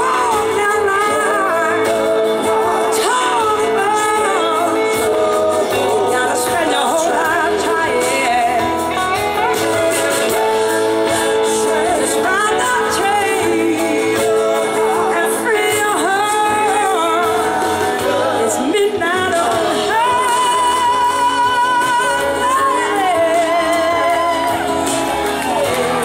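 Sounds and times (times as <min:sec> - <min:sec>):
live soul blues band: 0:00.0 - 0:26.0
woman singing: 0:00.0 - 0:26.0.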